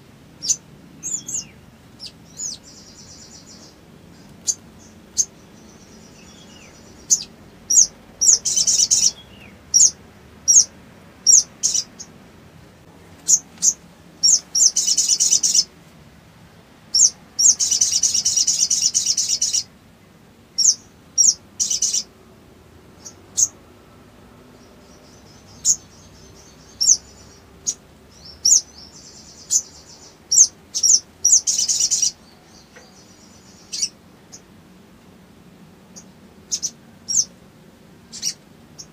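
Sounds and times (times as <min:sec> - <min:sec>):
bird chirping and trilling: 0:00.4 - 0:12.2, 0:13.2 - 0:15.7, 0:16.9 - 0:19.7, 0:20.6 - 0:22.1, 0:23.0 - 0:23.6, 0:24.6 - 0:34.5, 0:35.9 - 0:37.3, 0:38.1 - 0:38.9.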